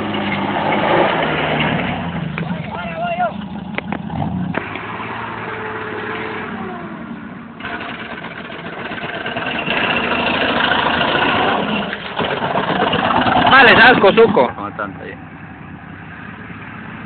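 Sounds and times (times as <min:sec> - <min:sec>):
truck engine under throttle: 0:00.0 - 0:17.0.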